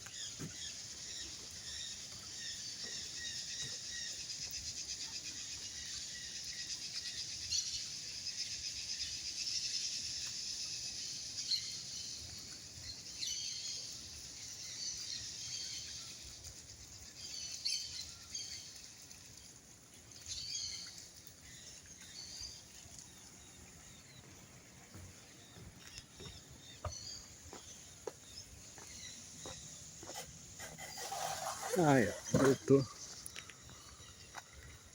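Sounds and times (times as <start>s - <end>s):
birds chirping: 0.0s - 16.2s, 20.1s - 34.9s
steady high-pitched outdoor hiss: 0.0s - 34.9s.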